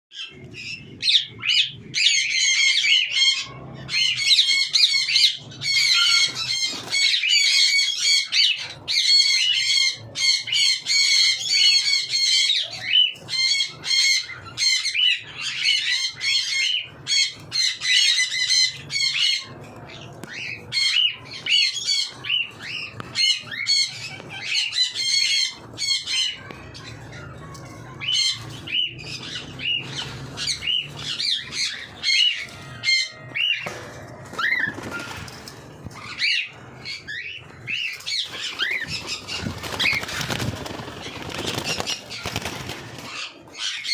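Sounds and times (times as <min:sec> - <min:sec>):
cockatiels chirping and squawking: 0:00.1 - 0:43.9.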